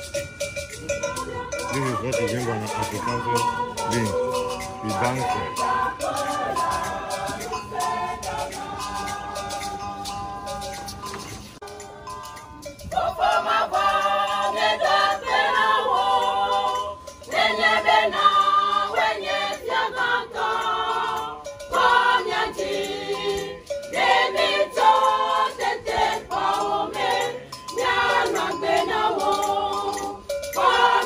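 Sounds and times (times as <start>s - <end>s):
group singing a church song: 1.0s - 31.0s.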